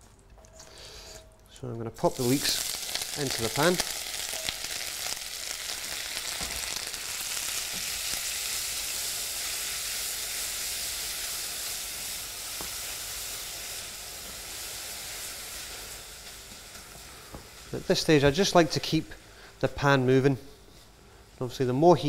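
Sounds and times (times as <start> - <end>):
leeks sizzling in butter: 2.0 - 20.1.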